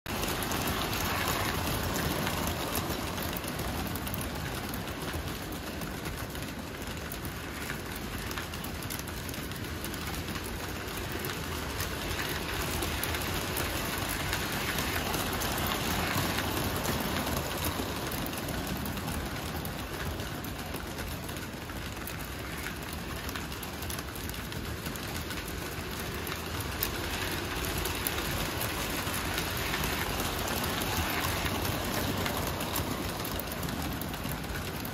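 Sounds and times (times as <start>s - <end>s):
toy train rolling clatter: 0.1s - 34.9s.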